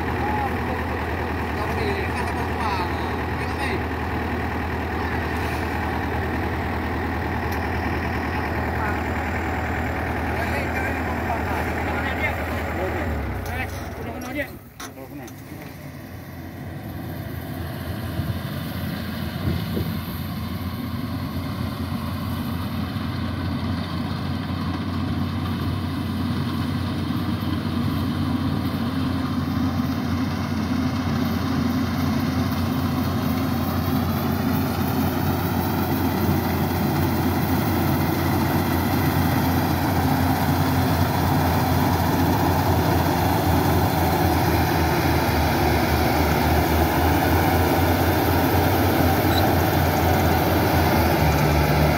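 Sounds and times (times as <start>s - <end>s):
combine harvester diesel engine: 0.0s - 51.9s
threshing machinery running: 0.0s - 51.9s.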